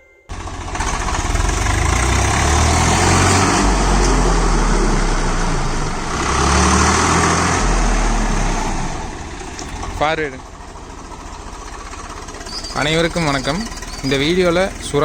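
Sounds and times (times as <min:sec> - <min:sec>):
tractor diesel engine running: 0:00.3 - 0:15.0.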